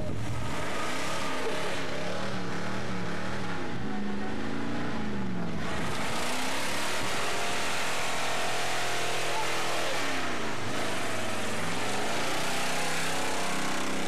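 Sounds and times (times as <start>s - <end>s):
pickup truck engine revving: 0.0s - 14.0s.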